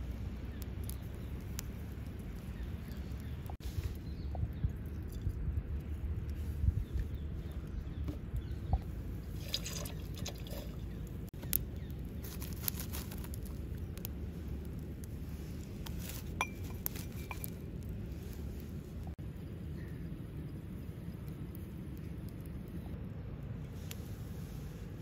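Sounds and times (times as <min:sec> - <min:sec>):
fire low rumble: 0:00.0 - 0:25.0.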